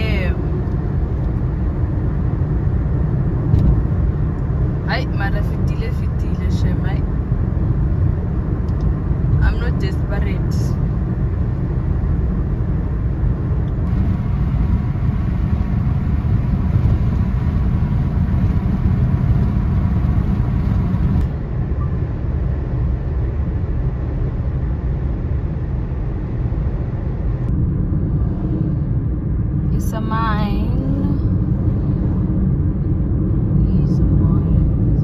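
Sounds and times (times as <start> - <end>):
car tyre and engine rumble: 0.0 - 35.0.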